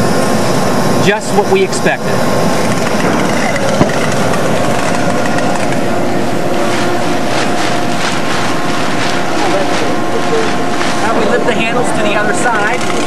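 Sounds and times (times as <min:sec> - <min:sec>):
machinery drone with hum: 0:00.0 - 0:13.0.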